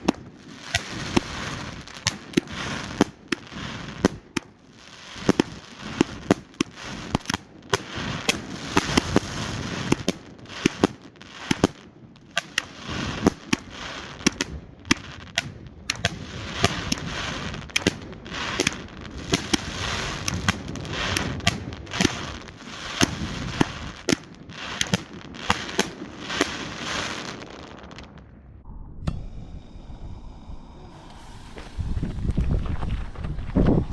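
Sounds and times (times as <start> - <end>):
firework cake firing: 0.0 - 28.4
firework crackle: 0.0 - 28.4, 30.8 - 33.9.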